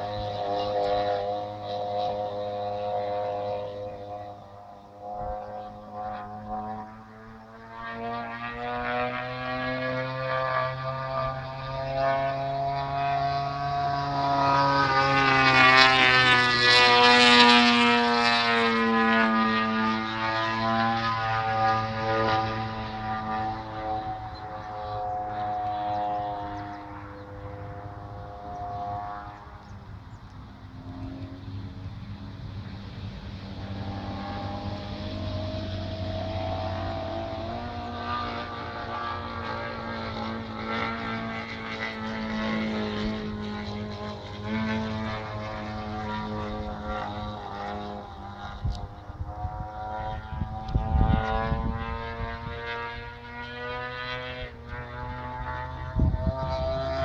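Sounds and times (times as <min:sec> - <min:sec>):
model airplane engine: 0:00.0 - 0:57.0.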